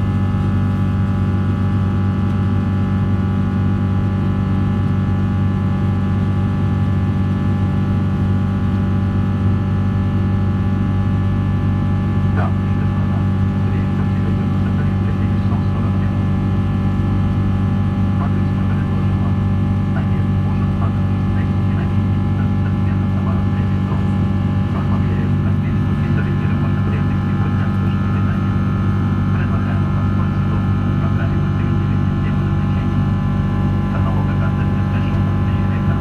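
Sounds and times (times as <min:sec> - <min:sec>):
airplane cabin engine drone: 0:00.0 - 0:36.0.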